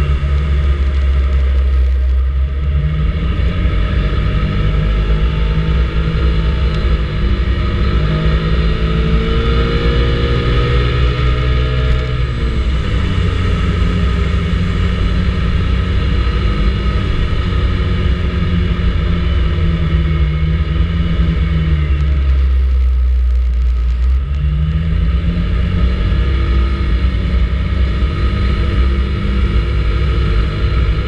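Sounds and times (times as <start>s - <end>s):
low wind rumble on microphone: 0.0s - 31.0s.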